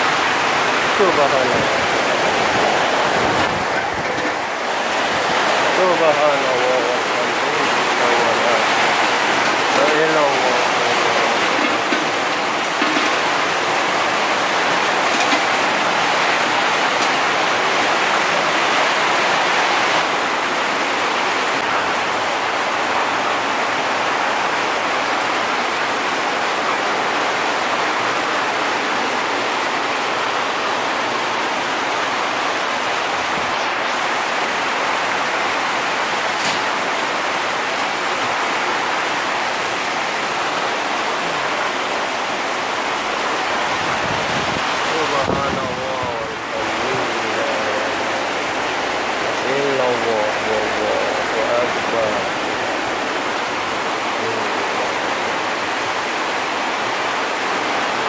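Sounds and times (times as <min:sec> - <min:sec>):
heavy rain pouring: 0:00.0 - 0:58.0
strong wind: 0:00.0 - 0:58.0.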